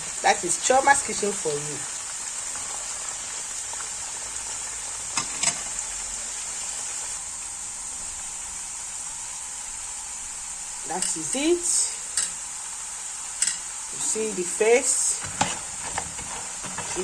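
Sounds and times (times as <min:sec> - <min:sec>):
plantain sizzling in oil: 0:00.0 - 0:17.0.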